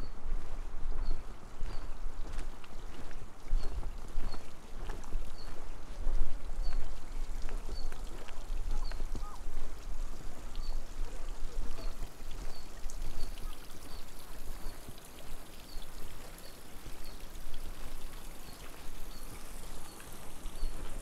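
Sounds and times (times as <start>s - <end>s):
flowing water: 0.0s - 21.0s
small ticks and patters: 0.0s - 21.0s.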